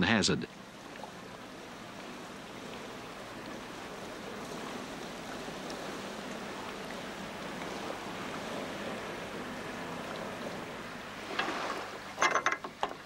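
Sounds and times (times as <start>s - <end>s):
boat water wash: 0.0s - 13.0s
low boat engine hum: 0.0s - 13.0s.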